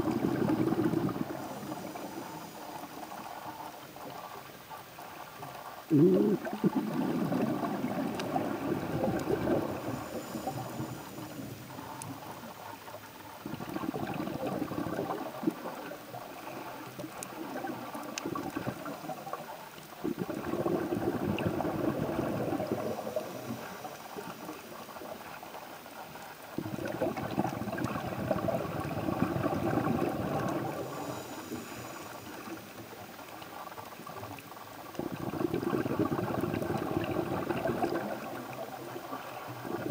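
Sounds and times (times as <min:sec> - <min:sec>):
underwater bubbling breath: 0:00.0 - 0:39.9.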